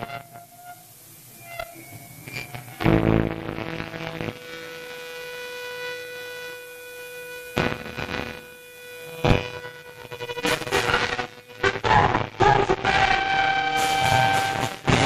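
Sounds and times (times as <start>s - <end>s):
amplifier tone ringing with hum: 0.0s - 15.0s.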